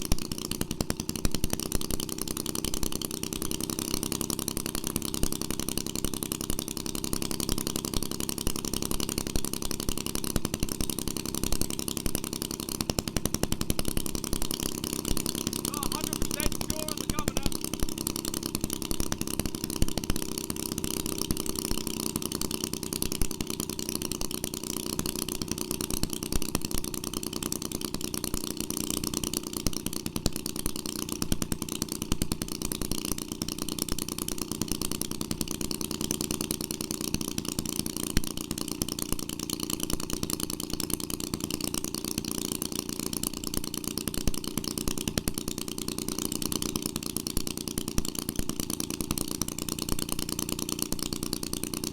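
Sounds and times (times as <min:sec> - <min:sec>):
two-stroke engine running: 0:00.1 - 0:26.2, 0:26.9 - 0:51.9.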